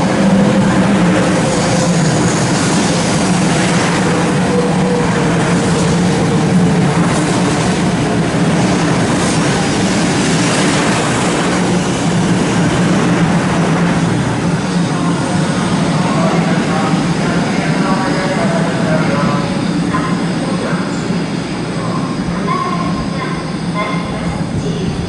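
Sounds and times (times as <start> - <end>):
train rail noise: 0.0 - 25.0.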